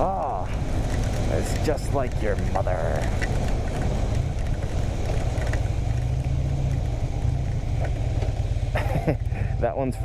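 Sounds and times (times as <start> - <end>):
motorcycle engine running: 0.0 - 10.0
wind and wet road hiss: 0.0 - 10.0.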